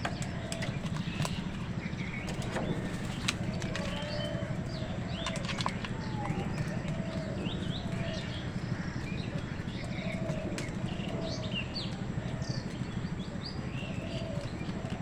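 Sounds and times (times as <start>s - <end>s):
flock of small birds chirping: 0.0s - 15.0s
steady low rumble: 0.0s - 15.0s.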